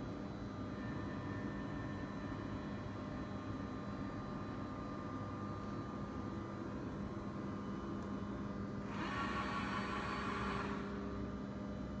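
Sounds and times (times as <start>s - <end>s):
motor and gear whine: 0.0s - 11.2s.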